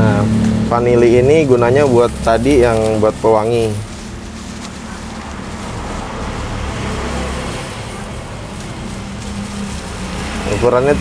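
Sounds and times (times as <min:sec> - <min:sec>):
road traffic rumble and hiss: 0:00.0 - 0:11.0.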